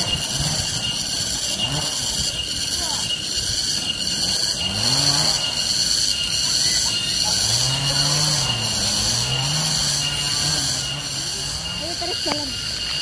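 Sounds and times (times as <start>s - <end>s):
cicadas calling: 0.0s - 13.0s
low gliding calls: 0.0s - 13.0s.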